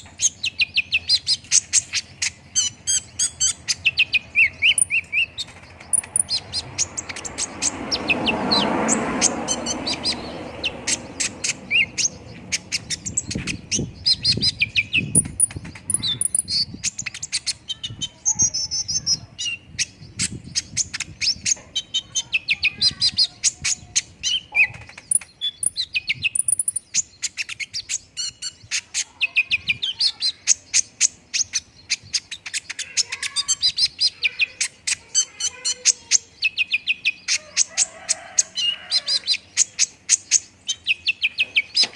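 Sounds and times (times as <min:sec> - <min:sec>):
bird chirping and trilling: 0:00.0 - 0:41.9.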